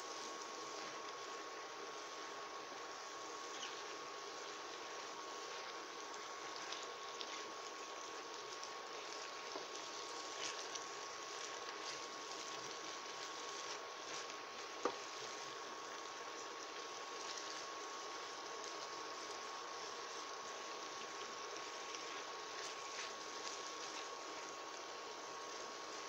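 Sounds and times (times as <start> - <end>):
liquid simmering in a pan: 0.0 - 26.0.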